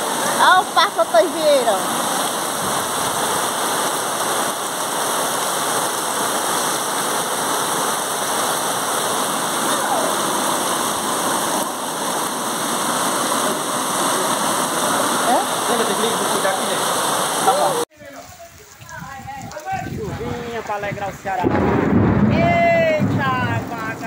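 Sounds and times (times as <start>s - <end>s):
floodwater rushing: 0.0s - 24.0s
heavy rain: 0.0s - 24.0s.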